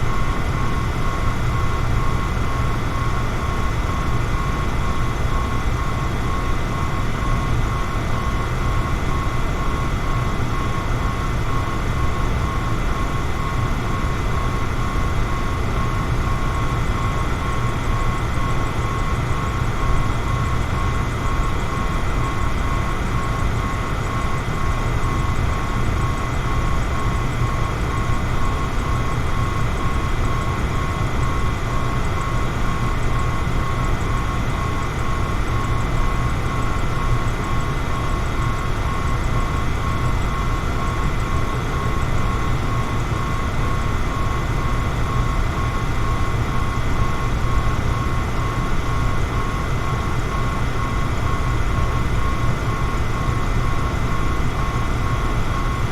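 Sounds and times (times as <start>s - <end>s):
thin steady whine: 0.0s - 55.9s.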